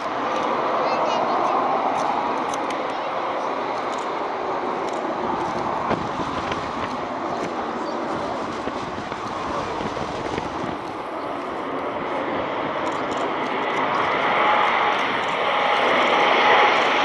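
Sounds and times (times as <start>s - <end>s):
distant aircraft engines roaring: 0.0s - 17.0s
wind rumble: 0.0s - 17.0s.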